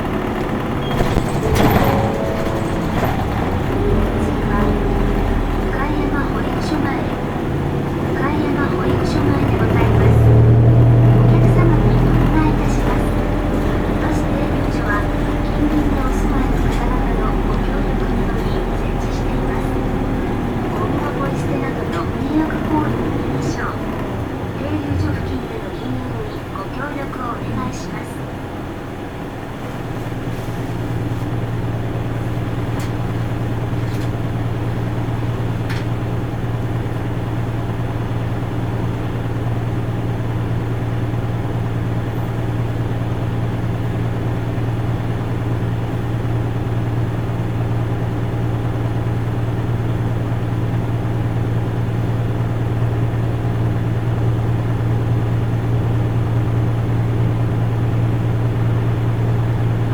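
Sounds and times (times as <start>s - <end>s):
bus engine drone from inside: 0.0s - 59.9s.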